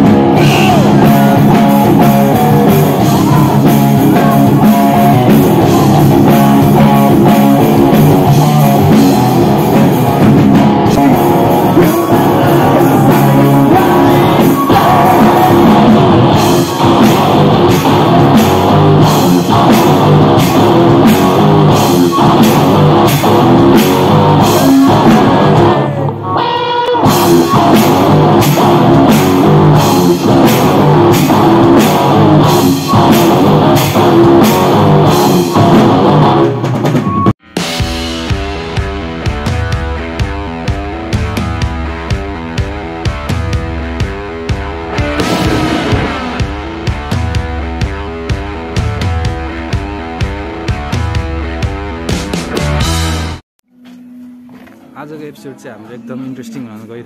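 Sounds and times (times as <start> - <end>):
drum kit beat: 0.0 - 53.4
distorted electric guitars: 0.0 - 57.0.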